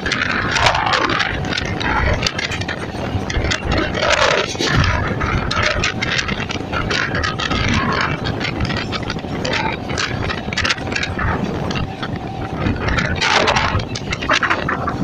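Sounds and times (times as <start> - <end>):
clacks and rattles: 0.0 - 15.0
train wheels rumbling on rails: 0.0 - 15.0.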